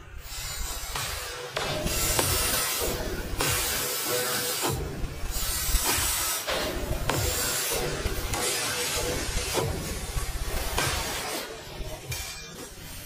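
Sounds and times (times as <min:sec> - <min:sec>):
sanding wheel hissing on wood: 0:00.0 - 0:11.5.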